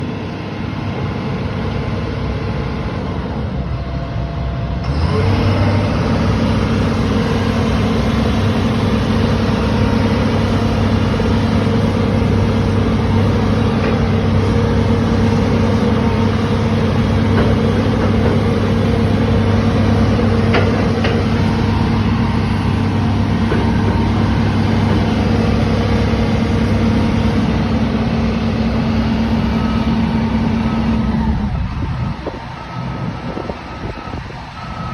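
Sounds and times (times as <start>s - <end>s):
heavy diesel engine droning: 0.0s - 34.9s.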